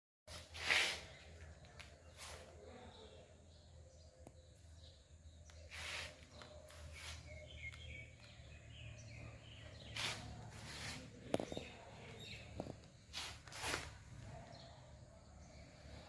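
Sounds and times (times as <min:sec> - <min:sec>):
faint outdoor ambience: 0:00.3 - 0:16.0
soft bird chirps: 0:00.3 - 0:16.0.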